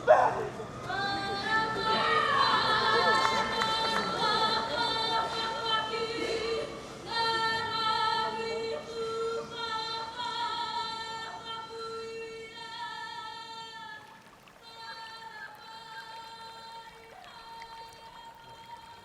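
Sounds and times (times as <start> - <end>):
woman singing with vibrato: 0.8 - 19.0.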